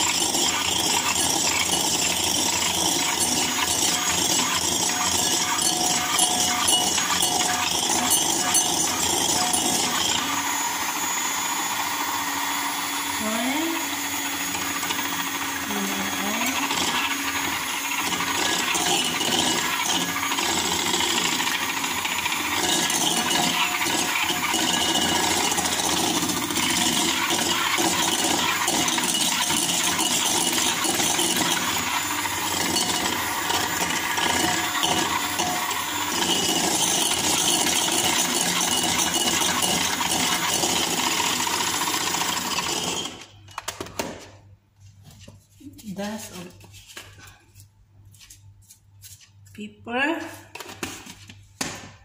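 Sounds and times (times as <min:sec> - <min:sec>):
electric hand mixer whipping: 0:00.0 - 0:43.4.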